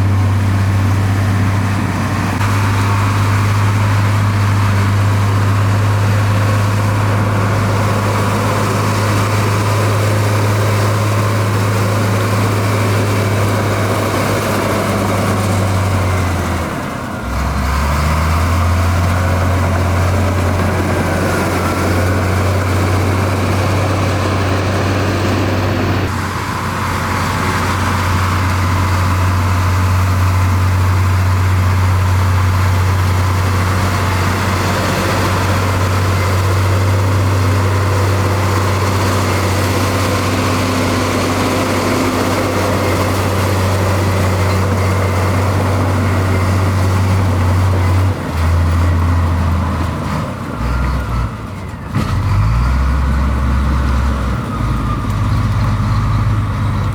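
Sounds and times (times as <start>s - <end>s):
diesel machinery droning: 0.0s - 56.9s.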